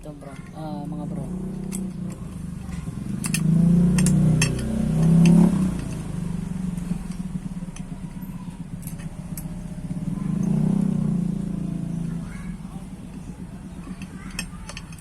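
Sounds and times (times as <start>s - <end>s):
motor vehicle engine running: 0.0s - 15.0s
light metallic clicks: 0.2s - 11.0s, 12.8s - 15.0s.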